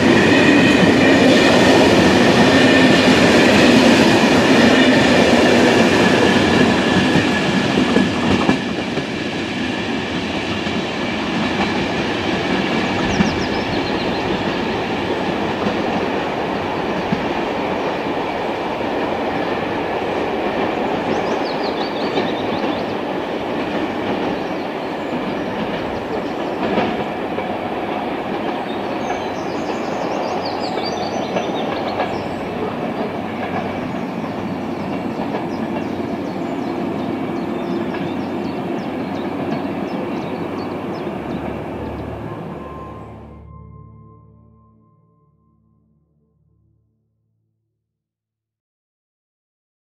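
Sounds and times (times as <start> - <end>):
train rumbling: 0.0 - 44.6.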